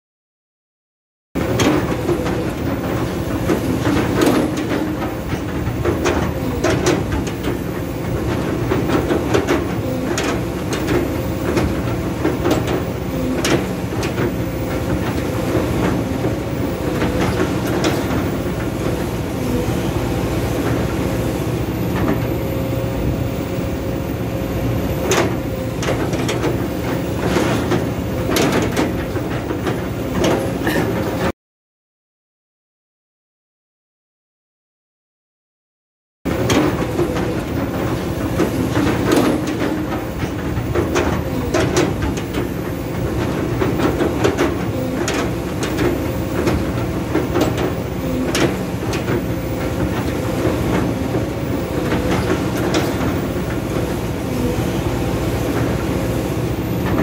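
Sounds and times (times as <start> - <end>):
excavator diesel engine running: 1.4 - 31.3, 36.3 - 57.0.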